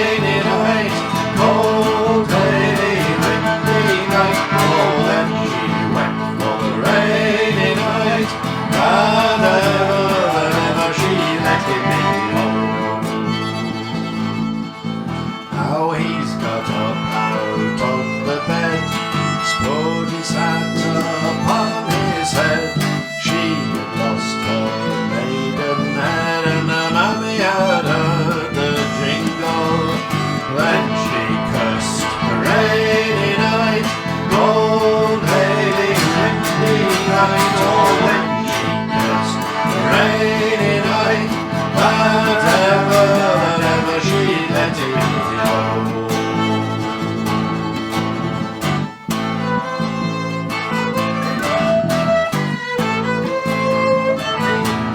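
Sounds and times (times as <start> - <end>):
acoustic guitar strumming: 0.0 - 54.9
fiddle playing: 0.0 - 54.9.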